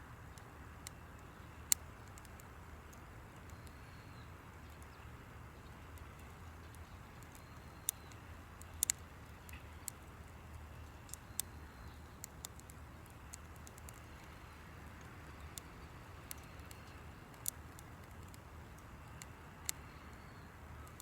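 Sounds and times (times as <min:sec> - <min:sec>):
campfire crackling: 0:00.2 - 0:21.0.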